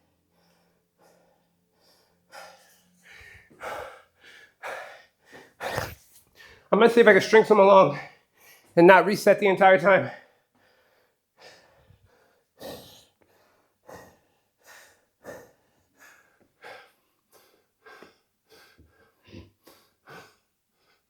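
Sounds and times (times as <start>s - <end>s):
man panting hard: 0.0s - 8.8s, 10.1s - 21.0s.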